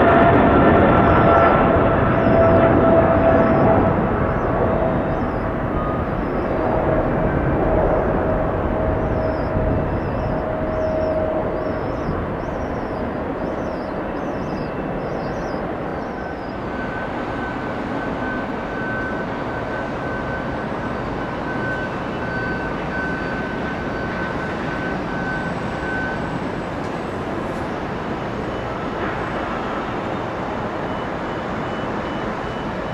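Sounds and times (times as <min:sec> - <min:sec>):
jet airliner engines roaring: 0:00.0 - 0:32.9.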